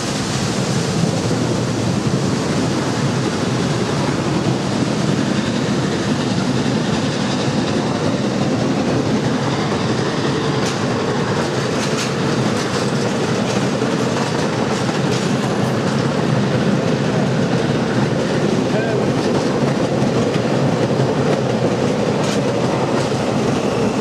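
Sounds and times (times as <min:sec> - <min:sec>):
train wheels rumbling on rail: 0:00.0 - 0:24.0
wheels clicking over rail joints: 0:03.0 - 0:24.0.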